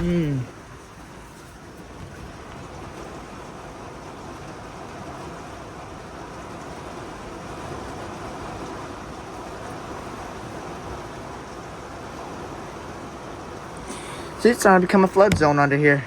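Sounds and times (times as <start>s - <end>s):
heavy rain: 0.0s - 16.0s
wind: 0.0s - 16.0s.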